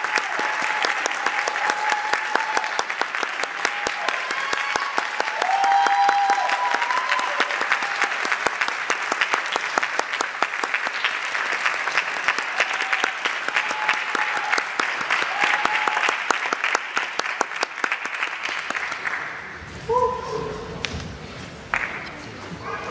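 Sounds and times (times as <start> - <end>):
audience applauding: 0.0 - 19.6, 21.6 - 22.7.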